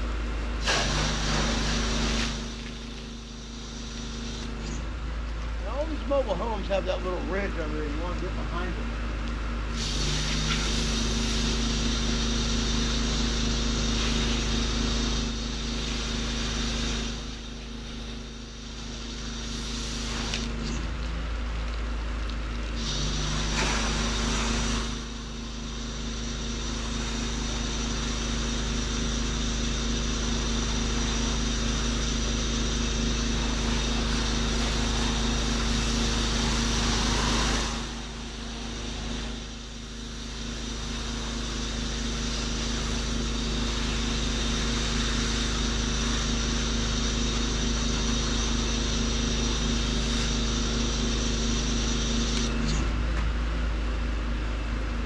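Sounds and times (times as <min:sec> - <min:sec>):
pressure washer engine humming: 0:00.0 - 0:53.0
high-pressure water spray hiss: 0:00.6 - 0:05.0, 0:09.7 - 0:21.0, 0:22.7 - 0:52.8.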